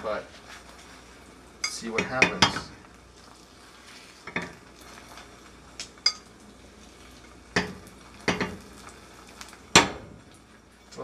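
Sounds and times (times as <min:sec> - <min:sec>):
butter sizzling under frying egg: 0:00.0 - 0:11.0.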